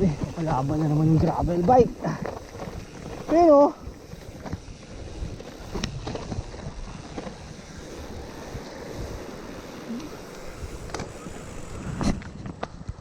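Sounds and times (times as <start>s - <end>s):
bike tyres on rough trail: 0.0s - 13.0s
wind on microphone: 0.0s - 13.0s.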